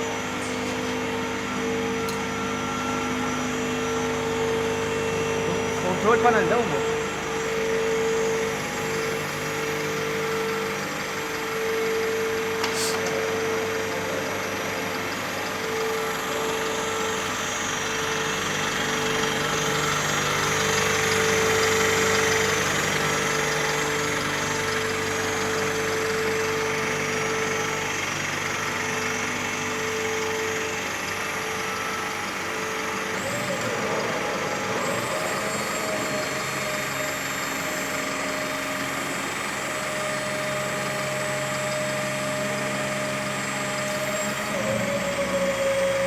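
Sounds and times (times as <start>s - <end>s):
constant humming tone: 0.0s - 46.0s
garbage truck engine running: 0.0s - 46.0s.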